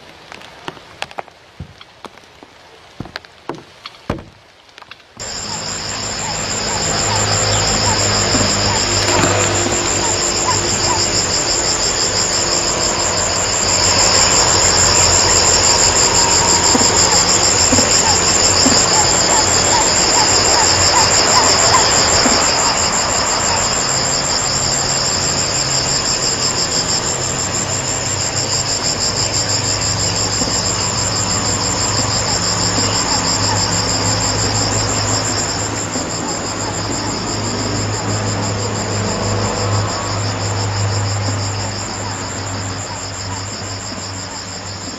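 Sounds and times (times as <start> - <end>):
faint chirps: 5.2 - 44.9
insect chorus: 5.2 - 44.9.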